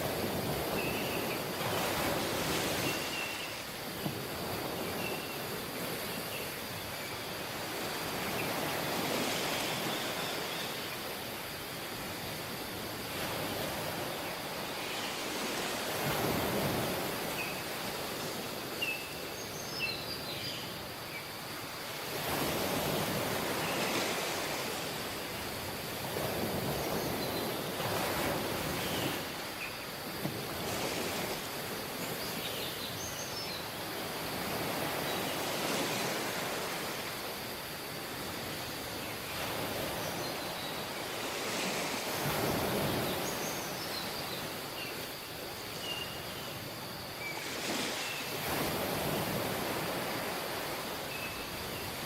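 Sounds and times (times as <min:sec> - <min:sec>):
small waves washing onto beach: 0:00.0 - 0:52.0.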